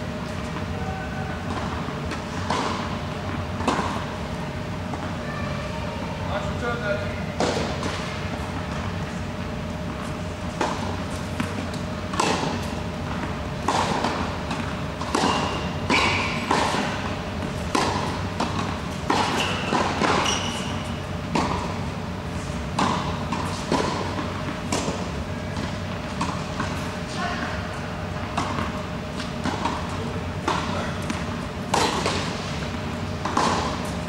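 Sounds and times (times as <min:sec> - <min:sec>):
steady low hum: 0:00.0 - 0:34.0
tennis balls bouncing on hard court: 0:01.4 - 0:04.2, 0:07.4 - 0:34.0
tennis balls struck with rackets: 0:01.4 - 0:04.2, 0:07.4 - 0:34.0.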